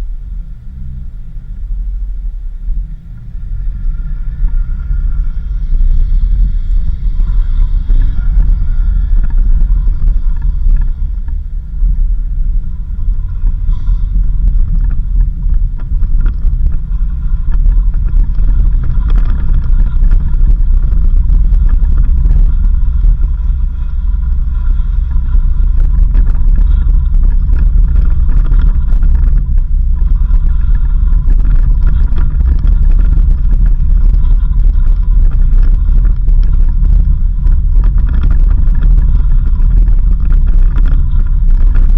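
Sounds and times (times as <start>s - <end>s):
vehicle rumbling on dirt road: 0.0s - 41.9s.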